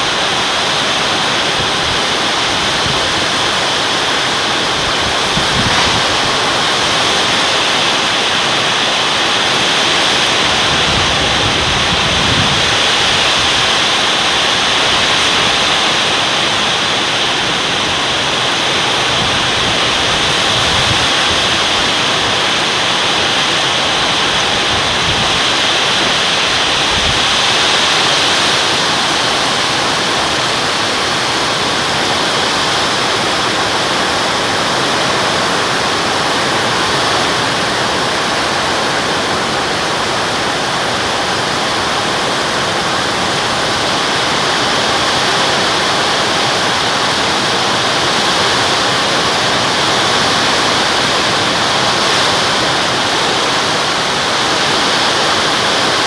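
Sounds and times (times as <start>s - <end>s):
heavy rain hissing: 0.0s - 56.0s
strong wind: 0.0s - 56.0s.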